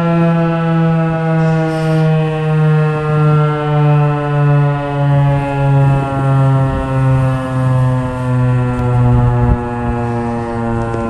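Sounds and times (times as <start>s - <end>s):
warning siren steady tone: 0.0s - 11.0s.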